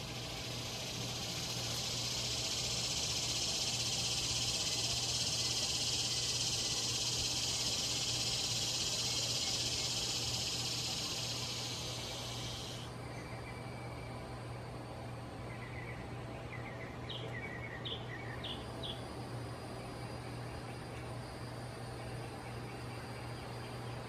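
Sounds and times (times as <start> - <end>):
cicada buzzing: 0.0 - 14.4, 18.4 - 24.0.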